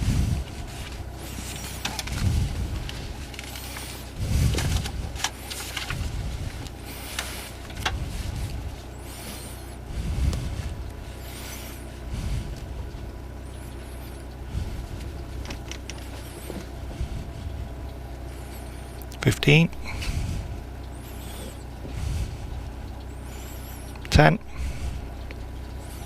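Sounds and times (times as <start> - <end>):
car engine idling in cabin: 0.0 - 26.0.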